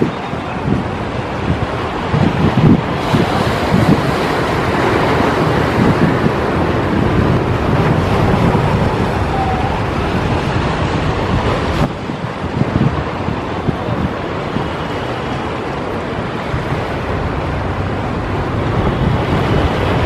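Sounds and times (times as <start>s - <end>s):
sea surf washing: 0.0s - 20.0s
wind buffeting microphone: 0.0s - 20.0s.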